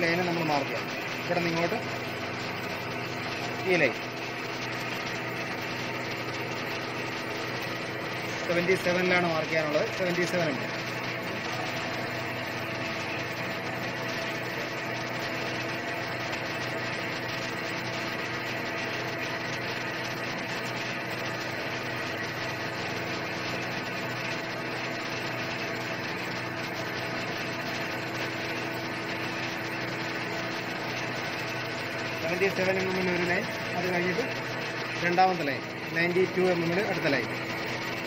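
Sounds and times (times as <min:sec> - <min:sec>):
lathe running: 0:00.0 - 0:38.0.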